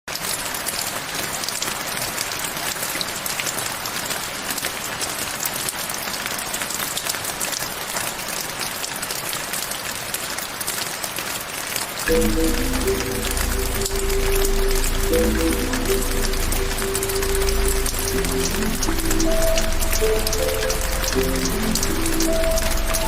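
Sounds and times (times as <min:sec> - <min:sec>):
rain drops pattering: 0:00.1 - 0:23.0.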